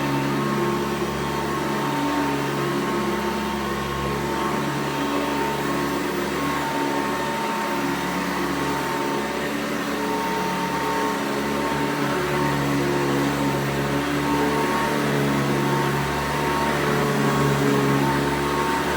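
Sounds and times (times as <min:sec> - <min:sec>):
upright vacuum cleaner running: 0:00.0 - 0:18.9.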